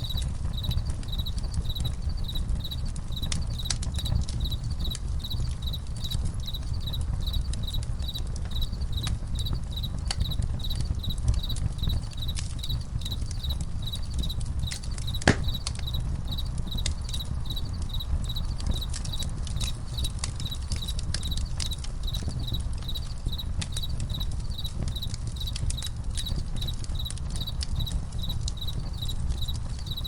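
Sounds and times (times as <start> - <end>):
campfire crackling and popping: 0.0 - 30.0
crickets chirping: 0.0 - 30.0.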